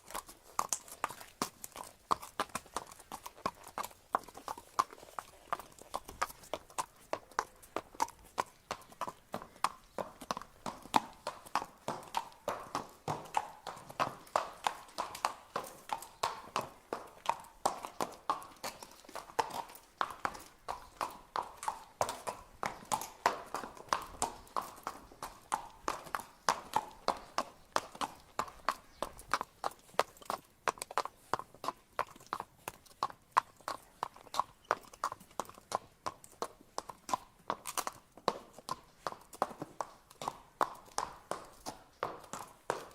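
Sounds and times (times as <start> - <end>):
horse hooves clip-clopping: 0.0 - 42.9.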